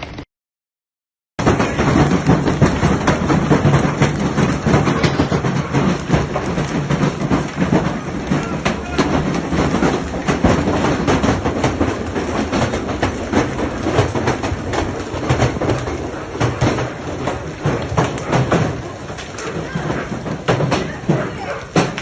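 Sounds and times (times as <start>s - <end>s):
hailstones clattering: 1.4s - 22.0s.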